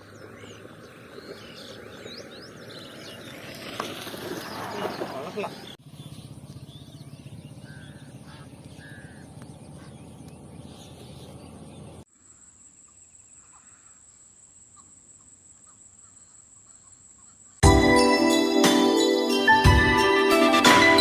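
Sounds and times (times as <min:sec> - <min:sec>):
bird calls: 0:00.0 - 0:17.6.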